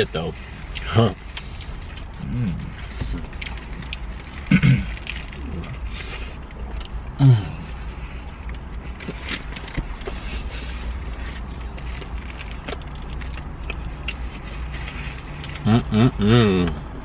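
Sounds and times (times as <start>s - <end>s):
steady low rumble: 0.0s - 17.0s
sandwich wrapping rustling: 0.3s - 15.6s
person chewing: 0.6s - 17.0s.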